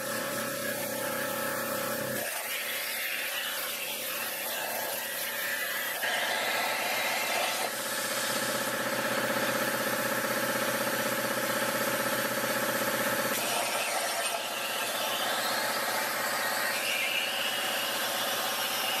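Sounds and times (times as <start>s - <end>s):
plasma cutter buzzing hiss: 0.0s - 12.3s, 13.2s - 19.0s.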